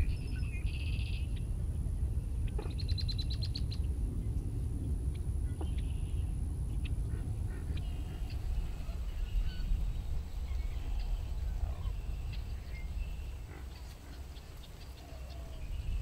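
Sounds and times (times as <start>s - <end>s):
birds chirping and whistling: 0.0s - 1.5s, 2.2s - 4.1s, 5.5s - 16.0s
steady low rumble: 0.0s - 16.0s.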